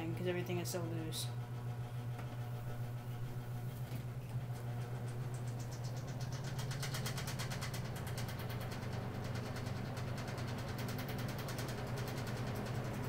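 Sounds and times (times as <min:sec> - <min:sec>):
fan motor hum: 0:00.0 - 0:13.0.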